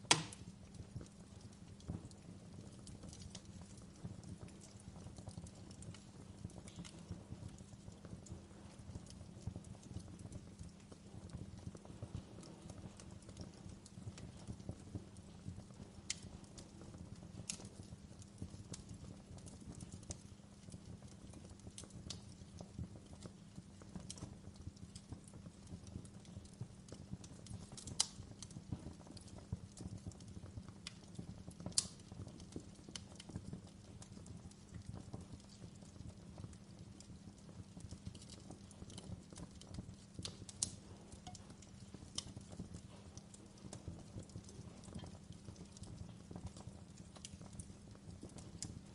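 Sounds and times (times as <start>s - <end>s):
fire popping and snapping: 0.0s - 48.9s
wood fire crackling: 0.0s - 48.9s.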